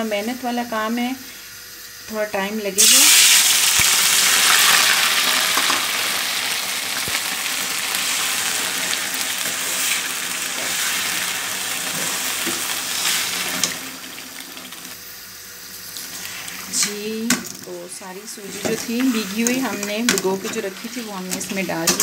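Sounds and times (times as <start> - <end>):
loud sizzling in hot fat: 0.0 - 22.0.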